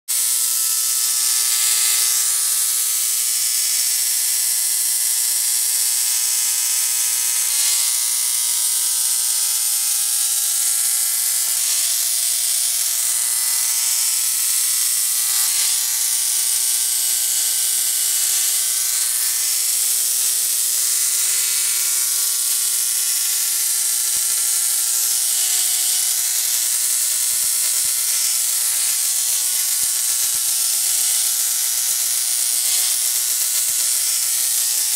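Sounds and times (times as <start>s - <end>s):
tesla coil buzzing: 0.1s - 34.9s.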